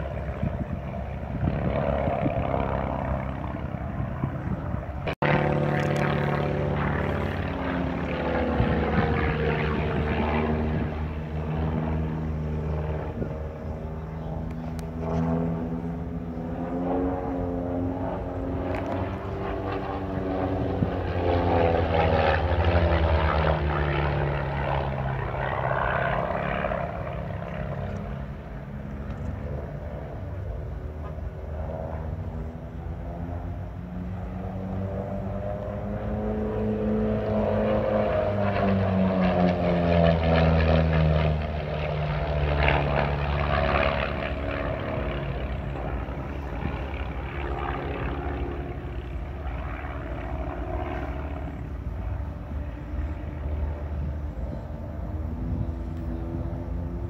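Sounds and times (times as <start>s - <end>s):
propeller airplanes droning past: 0.0s - 57.0s.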